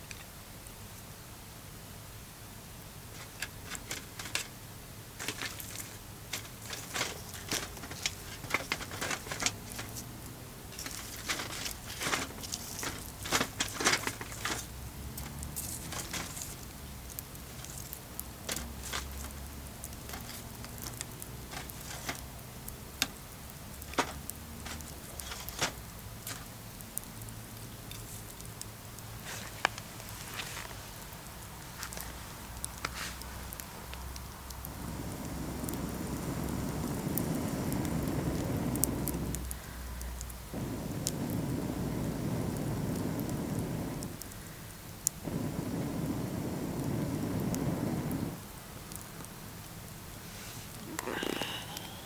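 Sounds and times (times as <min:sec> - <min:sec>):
campfire crackling and popping: 0:02.9 - 0:52.0.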